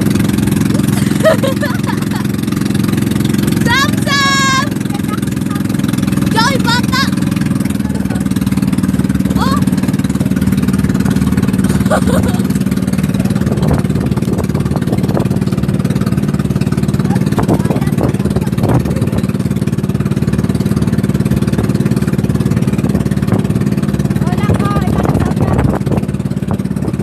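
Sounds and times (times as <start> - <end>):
boat motor droning: 0.0 - 27.0.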